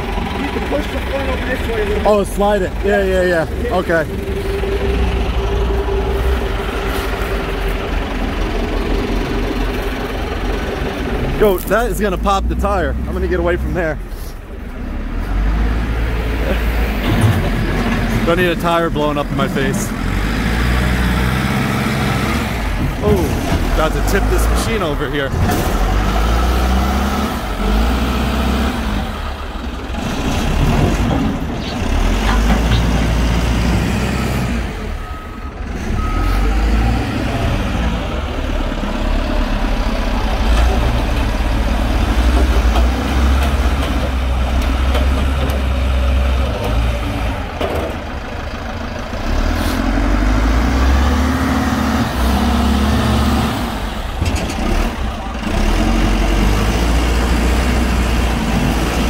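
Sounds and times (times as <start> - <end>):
diesel engines under load: 0.0 - 59.0.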